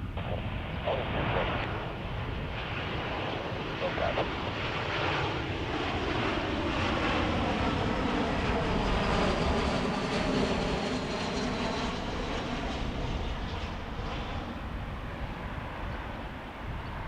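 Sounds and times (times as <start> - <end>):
jet engines passing by: 0.0 - 17.0.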